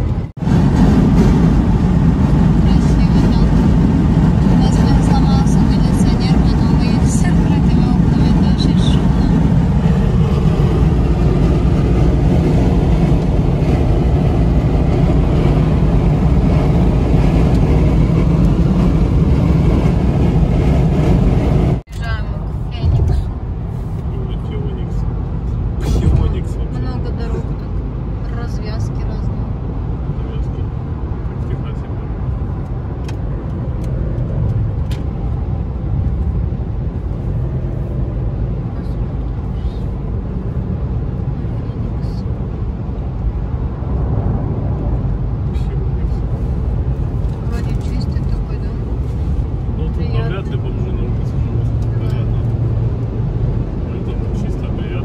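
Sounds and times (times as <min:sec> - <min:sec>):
car road noise at highway speed: 0:00.0 - 0:55.0.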